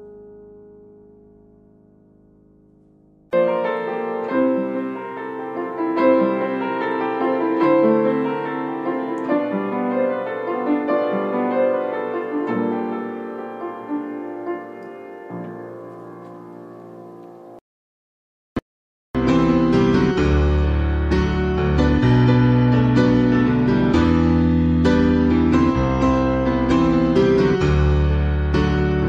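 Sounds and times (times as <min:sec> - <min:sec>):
piano keyboard music: 0:00.0 - 0:17.6, 0:19.2 - 0:29.0.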